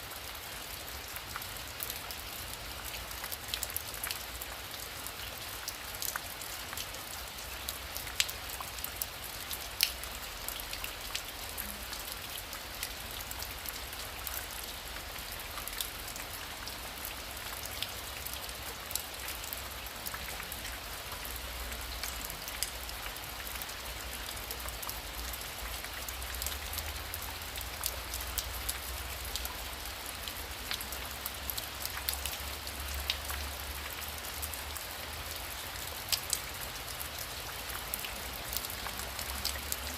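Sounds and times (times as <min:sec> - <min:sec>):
heavy rain falling: 0:00.0 - 0:39.9
rain drops clicking on surface: 0:00.0 - 0:39.9.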